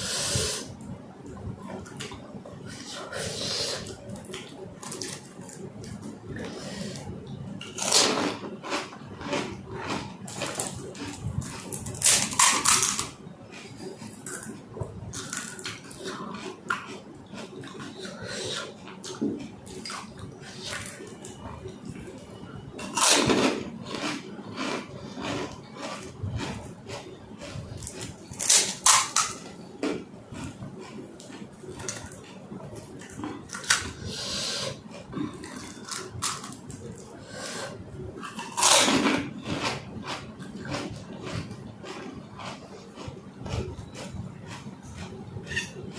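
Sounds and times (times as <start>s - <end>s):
food crunching while chewed: 3.7s - 45.9s.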